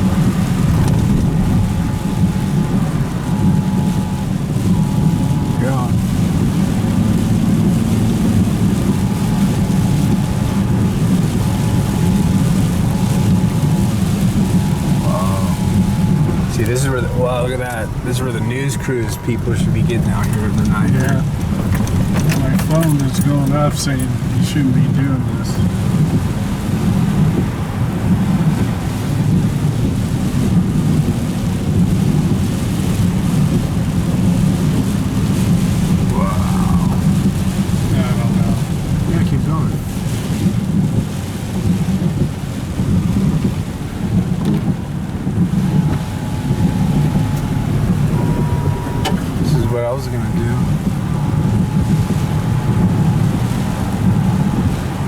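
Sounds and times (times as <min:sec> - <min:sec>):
vehicle engine and road rumble: 0:00.0 - 0:55.0.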